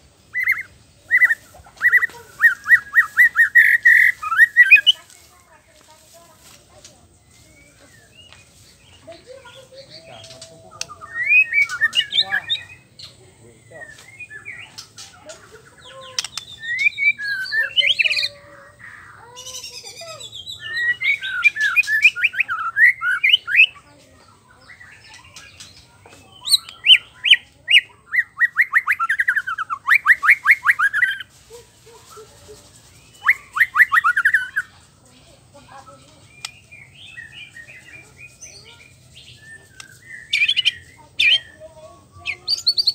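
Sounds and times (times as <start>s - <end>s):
bird singing trills: 0.0s - 42.9s.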